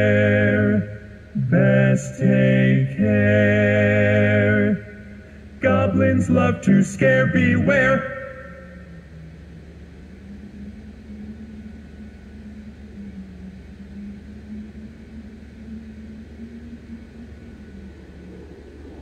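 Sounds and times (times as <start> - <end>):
low mechanical hum: 0.0 - 19.0
wavering drone: 0.0 - 19.0.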